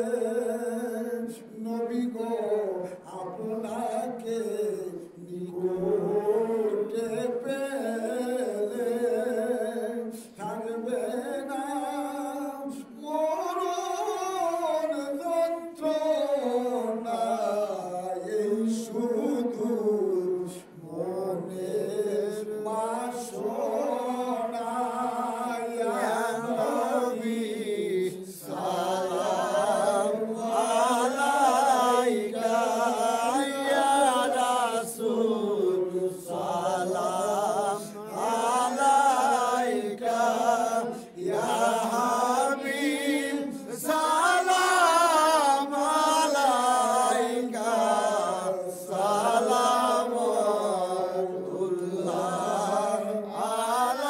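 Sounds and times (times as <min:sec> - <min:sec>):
man chanting: 0:00.0 - 0:54.0.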